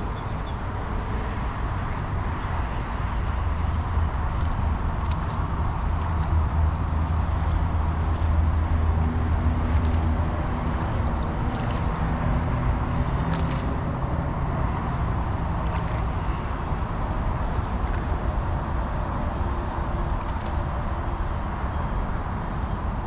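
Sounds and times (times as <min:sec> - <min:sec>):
low engine hum: 0:00.0 - 0:23.0
road traffic drone: 0:00.0 - 0:23.0.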